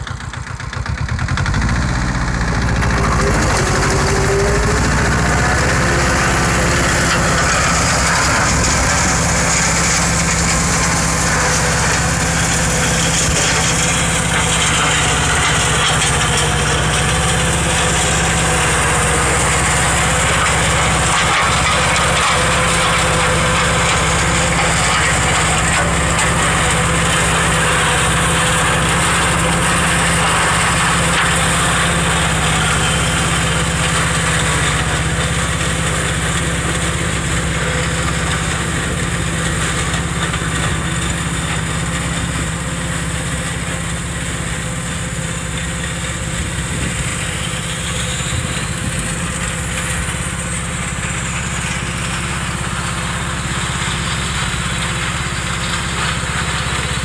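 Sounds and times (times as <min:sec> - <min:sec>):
diesel tractor running: 0:00.0 - 0:57.0
flail mulcher shredding brush: 0:00.0 - 0:57.0.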